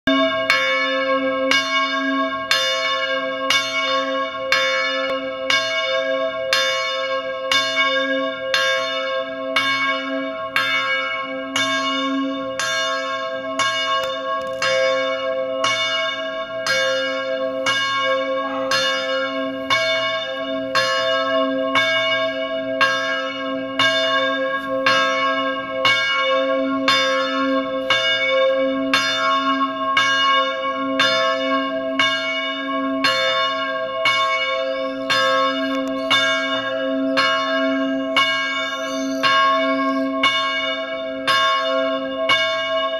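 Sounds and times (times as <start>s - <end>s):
church bell ringing: 0.0s - 42.9s.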